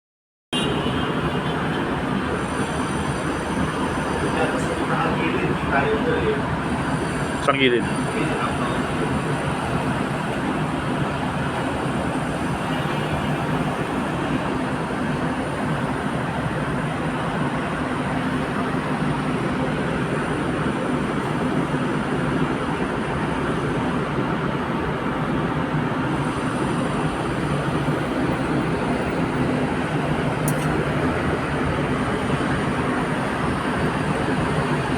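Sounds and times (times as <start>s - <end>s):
distant traffic noise: 0.5s - 34.9s.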